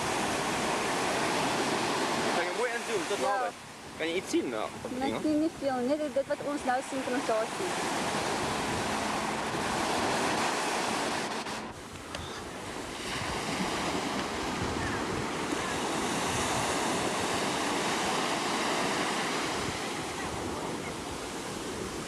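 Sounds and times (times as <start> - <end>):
wind on microphone: 0.0 - 2.4, 3.3 - 22.0
surf washing on shore: 0.0 - 22.0.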